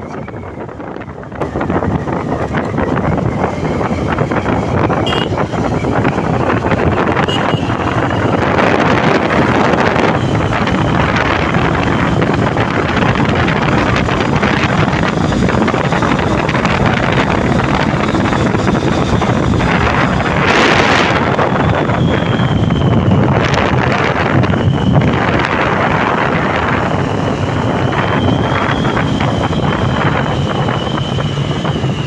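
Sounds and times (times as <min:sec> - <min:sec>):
motorcycle road and engine noise: 0:00.0 - 0:32.0
wind rushing over microphone: 0:00.0 - 0:32.0.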